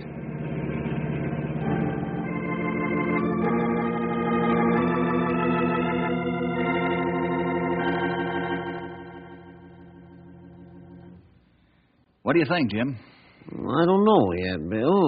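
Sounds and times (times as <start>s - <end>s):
organ playing held chords: 0.0s - 12.7s.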